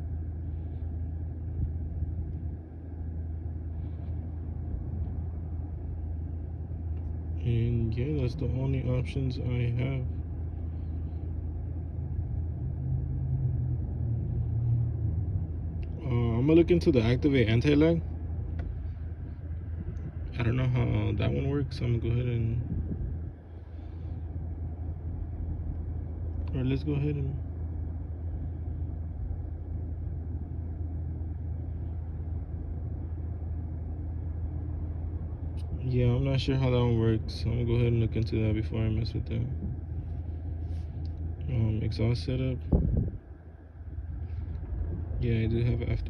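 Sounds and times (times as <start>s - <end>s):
car blower humming: 0.0s - 46.0s.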